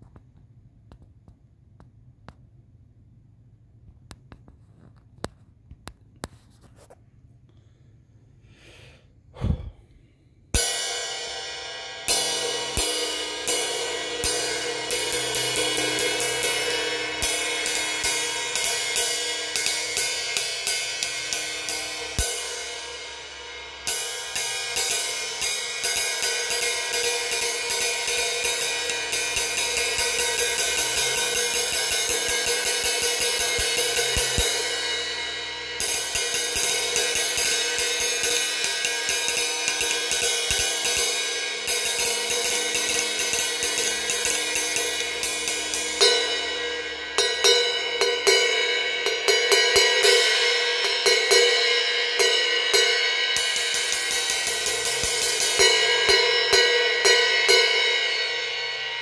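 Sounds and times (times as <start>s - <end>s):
cymbal struck with drumstick: 10.6s - 59.0s.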